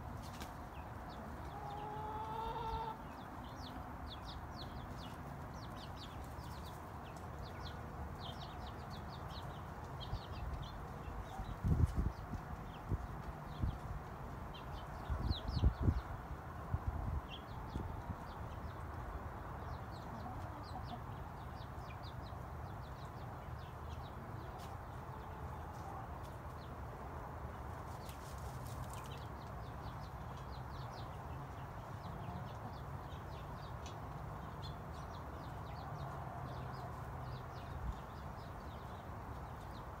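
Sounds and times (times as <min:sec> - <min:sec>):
chickens clucking: 0:00.1 - 0:16.1, 0:19.7 - 0:22.1, 0:23.0 - 0:26.6, 0:27.7 - 0:38.0.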